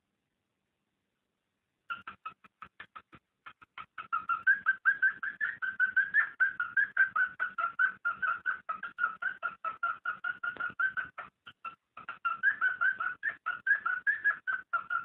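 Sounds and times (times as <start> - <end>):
cockatiel chirping: 1.9 - 15.0.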